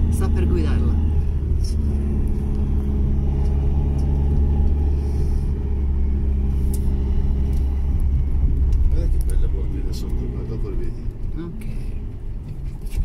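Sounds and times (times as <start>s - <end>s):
van engine and tyres rumbling: 0.0s - 13.0s.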